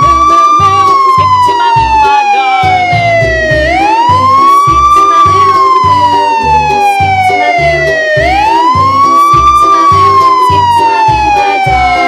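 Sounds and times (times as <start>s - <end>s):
music with steady beat: 0.0s - 12.0s
wailing siren: 0.0s - 12.0s.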